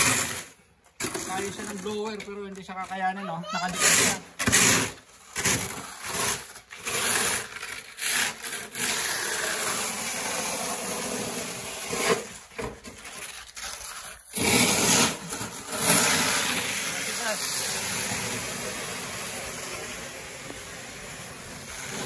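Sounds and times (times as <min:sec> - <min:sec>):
plastic shovel scraping concrete: 0:00.0 - 0:22.0.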